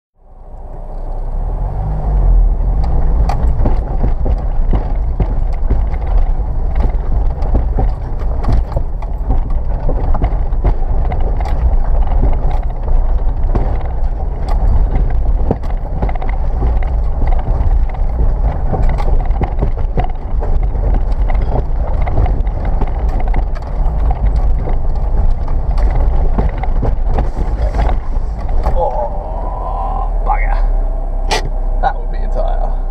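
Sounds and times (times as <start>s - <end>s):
car engine rumbling: 0.2s - 32.9s
tyres knocking over rocks: 2.8s - 29.6s.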